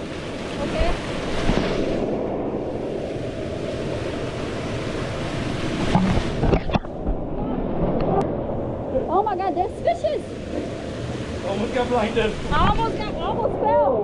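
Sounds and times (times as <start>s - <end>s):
river water rushing: 0.0s - 7.3s, 8.5s - 13.9s.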